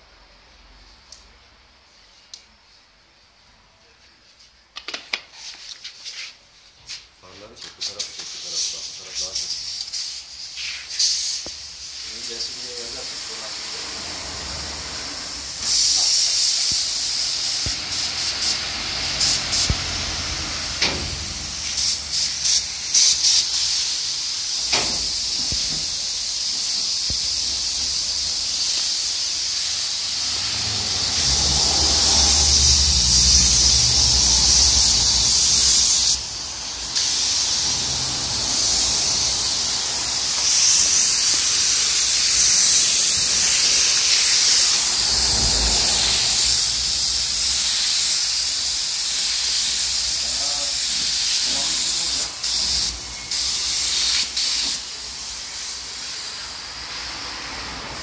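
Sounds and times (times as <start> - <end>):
spray gun air hissing: 7.8 - 58.0.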